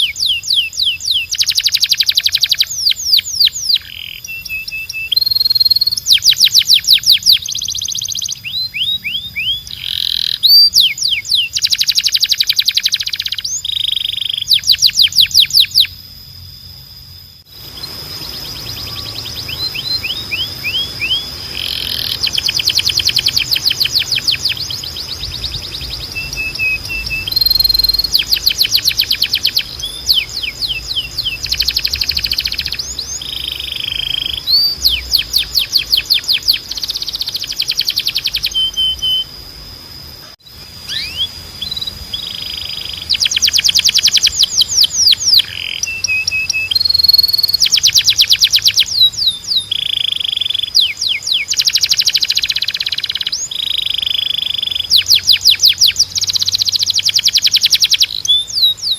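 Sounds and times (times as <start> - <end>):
canary singing: 0.0 - 16.4, 17.4 - 39.4, 40.2 - 58.9.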